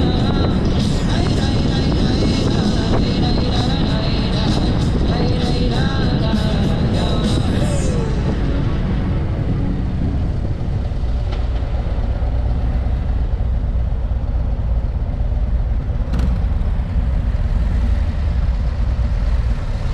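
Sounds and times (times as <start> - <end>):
motorcycle engines rumbling: 0.0 - 19.9.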